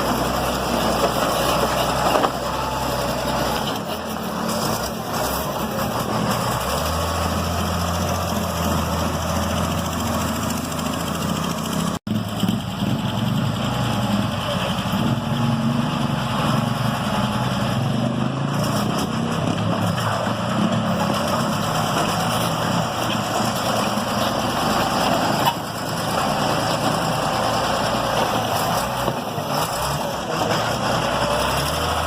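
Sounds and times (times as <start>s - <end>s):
road-works machinery engines: 0.0s - 32.0s.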